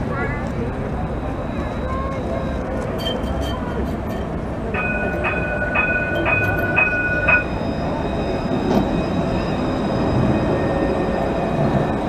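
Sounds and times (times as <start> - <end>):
tram wheels rumbling on rails: 0.0 - 12.0
wheels squealing: 1.0 - 12.0.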